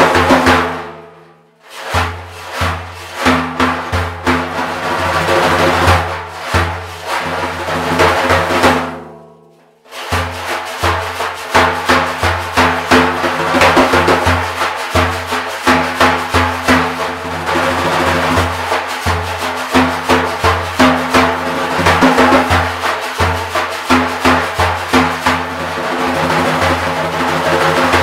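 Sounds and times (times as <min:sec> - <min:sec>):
frame drum played by hand: 0:00.0 - 0:28.0.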